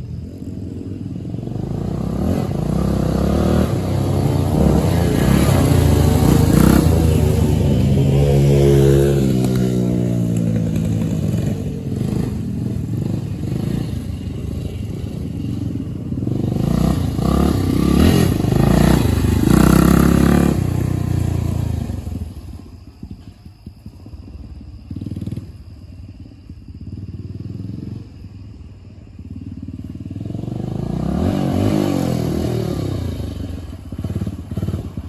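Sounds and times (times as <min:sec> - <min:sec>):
dirt bike engine revving: 0:00.0 - 0:22.6, 0:29.2 - 0:35.0.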